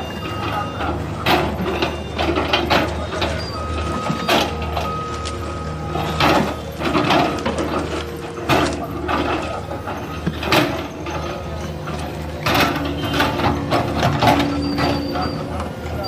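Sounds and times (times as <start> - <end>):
bucket clanking and scraping: 0.0 - 16.0
excavator diesel engine running: 0.0 - 16.0.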